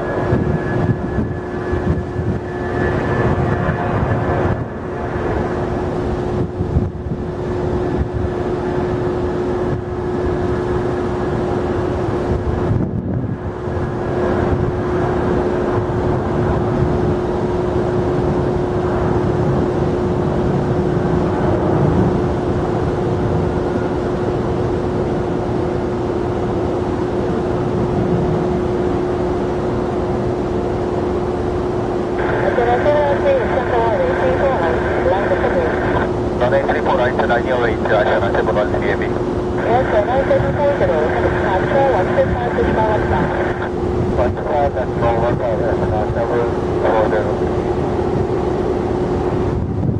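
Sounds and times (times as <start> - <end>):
constant humming tone: 0.0 - 49.9
jet engines running: 0.0 - 49.9.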